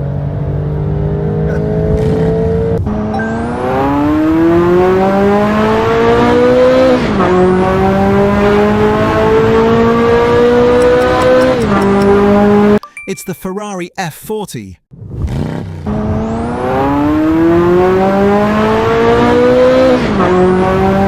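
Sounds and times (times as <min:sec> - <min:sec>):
car engine holding steady revs: 0:00.0 - 0:12.8, 0:15.0 - 0:21.0
sports car accelerating hard: 0:00.0 - 0:12.8, 0:15.0 - 0:21.0.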